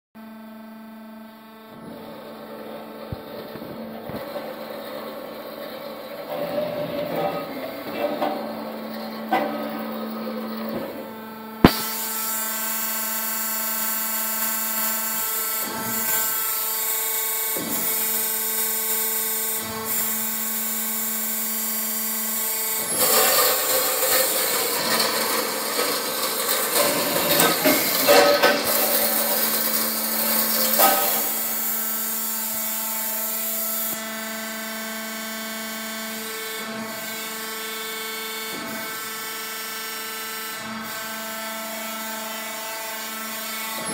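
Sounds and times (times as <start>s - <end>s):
band saw humming and whining: 0.2s - 43.9s.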